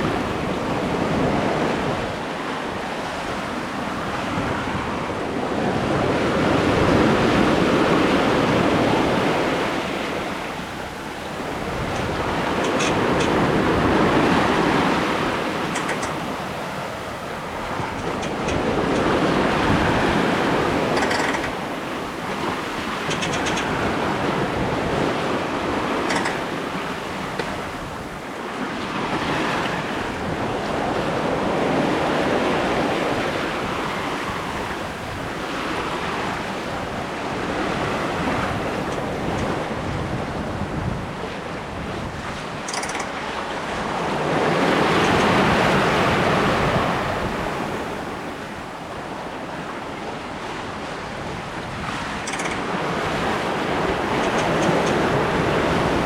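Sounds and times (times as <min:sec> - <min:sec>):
water splashing along hull: 0:00.0 - 0:56.0
wind buffeting microphone: 0:00.0 - 0:56.0.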